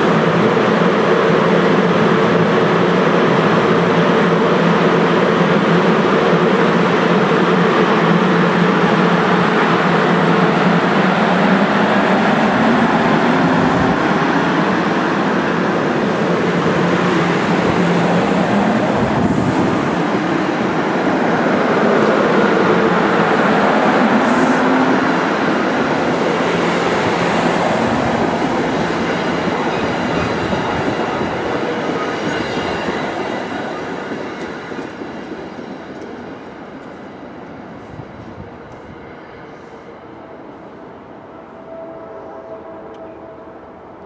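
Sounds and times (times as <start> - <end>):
train rumbling past: 0.0 - 44.0.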